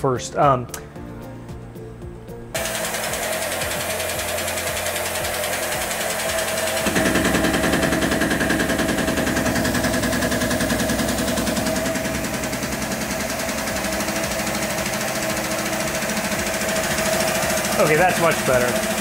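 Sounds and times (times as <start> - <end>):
machine whine: 2.5 - 19.0
milling cutter hammering: 2.6 - 19.0.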